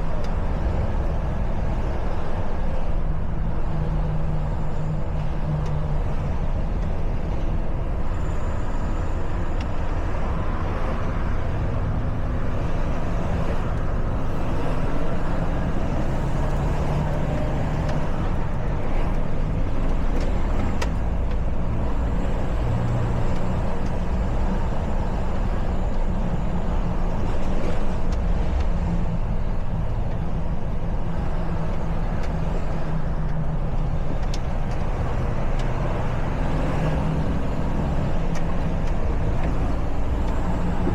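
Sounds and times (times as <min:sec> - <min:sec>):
diesel truck engine: 0:00.0 - 0:40.9
road noise: 0:00.0 - 0:40.9.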